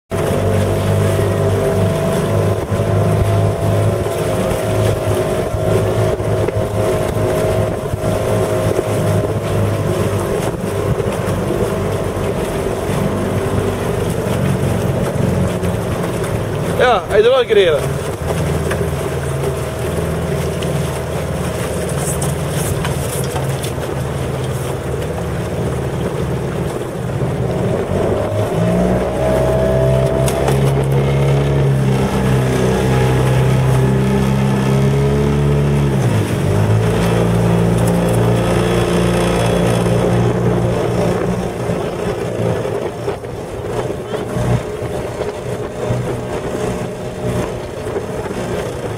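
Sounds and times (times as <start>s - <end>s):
motorboat engine running: 0.1s - 48.9s.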